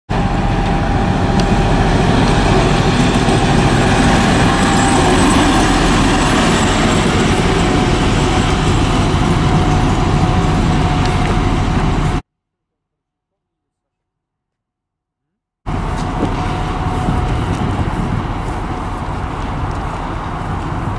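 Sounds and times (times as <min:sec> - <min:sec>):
diesel locomotive passing: 0:00.1 - 0:12.2, 0:15.7 - 0:20.9.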